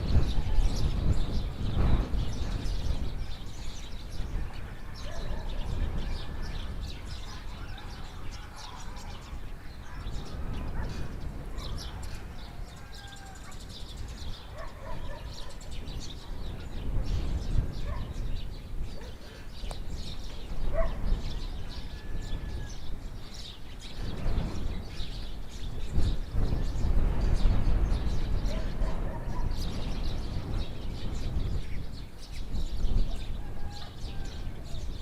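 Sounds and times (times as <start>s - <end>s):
bird calls: 0.0s - 35.0s
small birds chirping: 0.0s - 35.0s.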